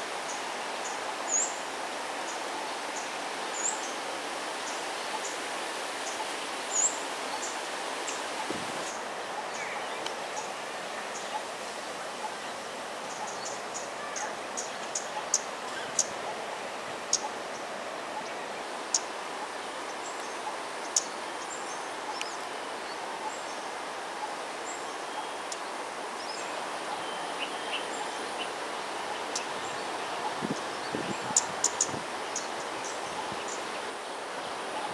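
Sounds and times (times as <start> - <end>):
outdoor background hiss: 0.0 - 34.9.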